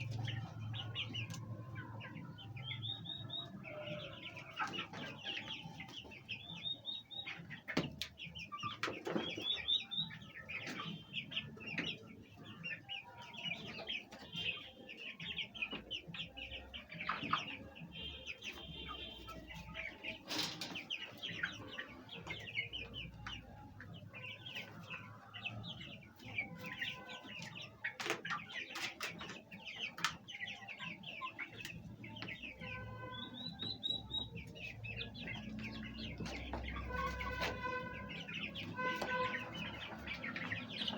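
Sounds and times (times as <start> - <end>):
hens clucking: 0.0 - 40.9.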